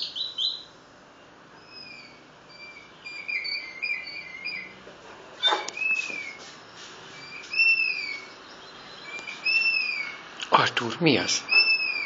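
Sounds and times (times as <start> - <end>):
recorded bird calls: 0.0 - 12.0.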